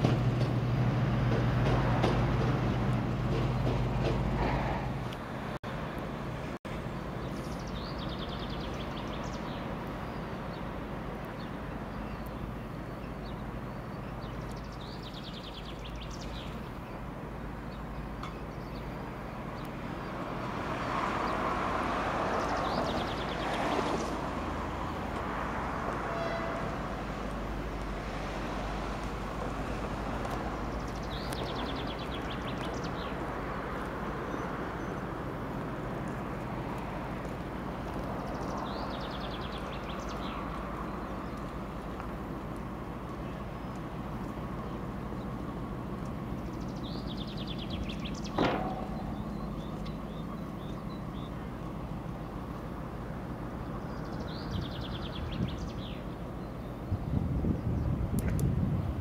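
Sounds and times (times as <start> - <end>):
diesel locomotive engine droning: 0.0 - 59.0.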